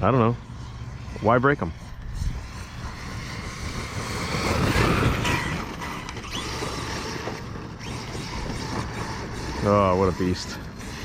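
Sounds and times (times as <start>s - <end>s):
electric motor and gears whining: 0.0s - 11.0s
tyres on rough ground: 0.7s - 11.0s.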